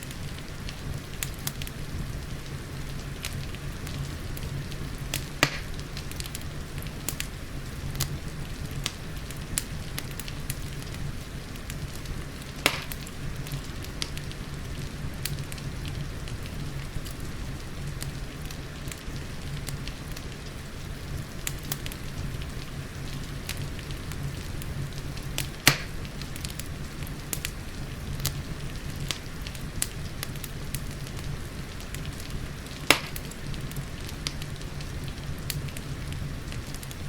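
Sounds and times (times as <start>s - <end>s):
rain hissing: 0.0s - 37.0s
wood fire crackling: 0.0s - 37.0s.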